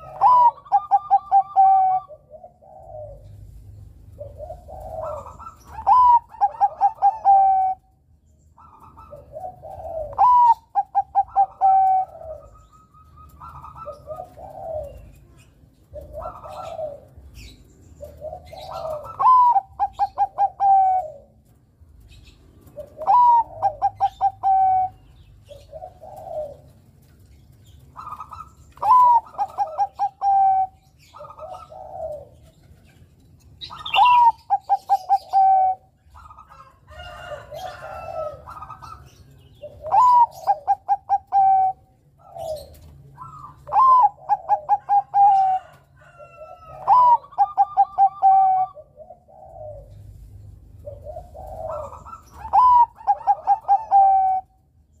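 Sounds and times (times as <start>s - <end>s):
dove cooing song: 0.0s - 55.0s.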